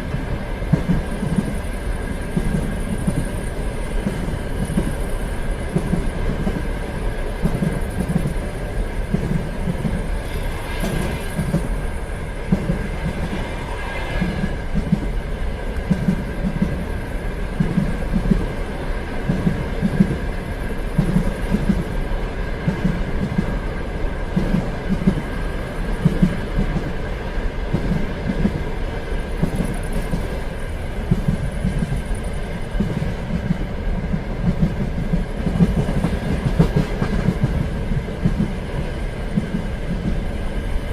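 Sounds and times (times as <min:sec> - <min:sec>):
train running along rails: 0:00.0 - 0:40.9
wheels clickety-clack over rail joints: 0:00.0 - 0:40.9.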